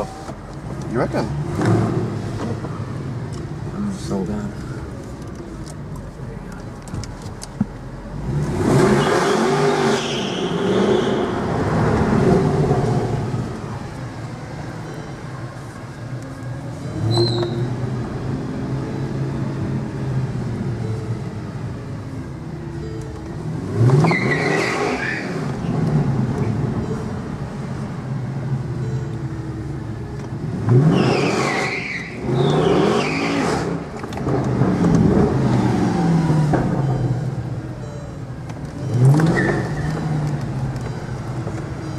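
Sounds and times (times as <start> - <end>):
car engine accelerating: 0.0 - 6.0, 6.6 - 37.8, 38.4 - 41.9.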